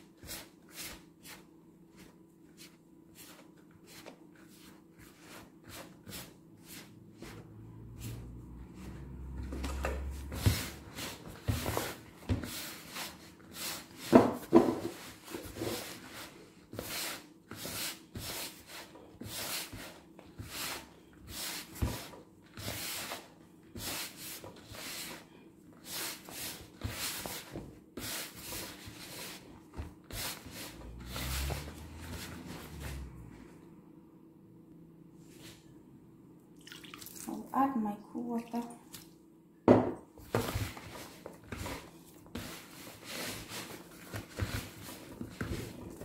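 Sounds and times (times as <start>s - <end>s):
dough being mixed in bowl: 0.0s - 33.5s, 40.2s - 46.0s.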